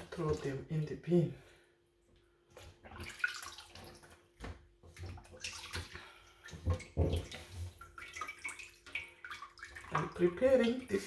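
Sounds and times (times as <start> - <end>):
water splashing and sloshing: 0.0 - 1.2, 2.0 - 11.0.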